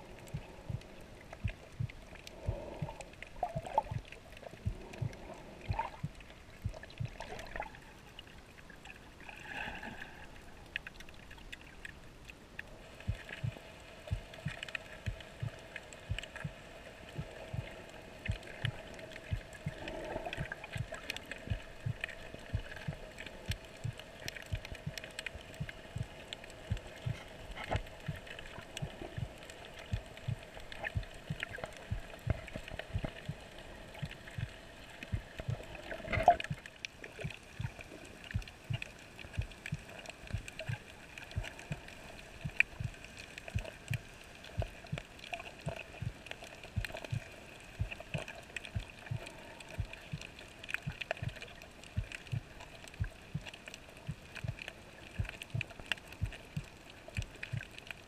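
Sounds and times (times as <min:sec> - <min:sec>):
faint steady underwater tones: 0:00.0 - 0:58.0.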